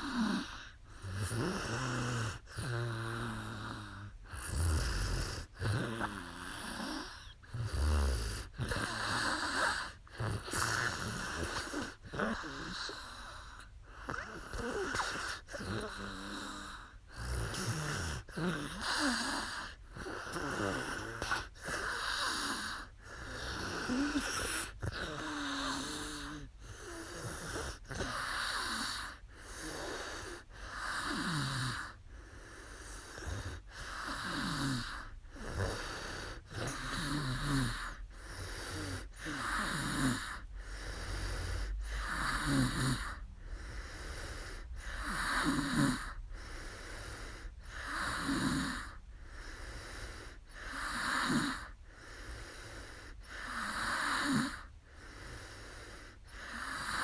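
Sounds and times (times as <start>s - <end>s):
woman snoring: 0.0s - 57.0s.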